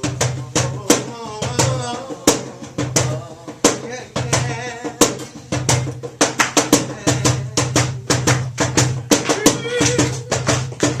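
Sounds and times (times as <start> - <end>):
drum kit beat: 0.0 - 11.0.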